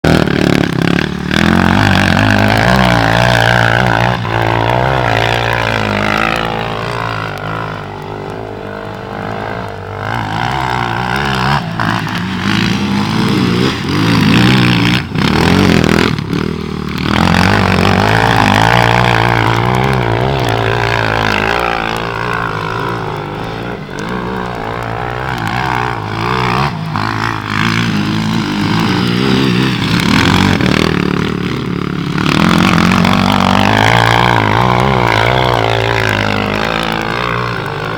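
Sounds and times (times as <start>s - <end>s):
atv engine revving: 0.0s - 37.9s.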